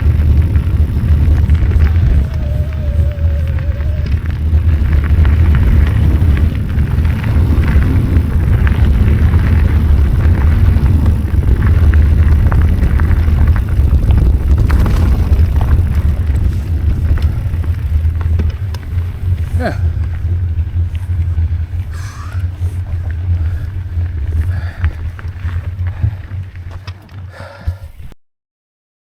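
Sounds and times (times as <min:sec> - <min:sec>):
wind buffeting microphone: 0:00.0 - 0:26.8
bicycle clicks and rattles: 0:00.0 - 0:28.2.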